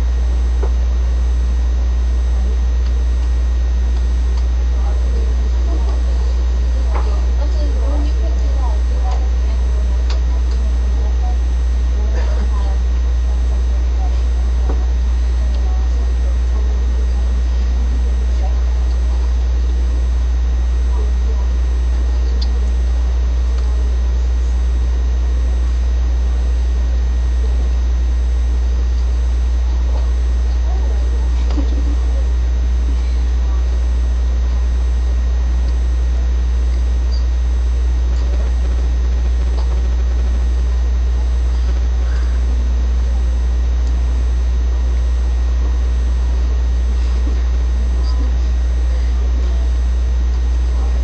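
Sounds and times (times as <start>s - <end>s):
low hum: 0.0s - 51.0s.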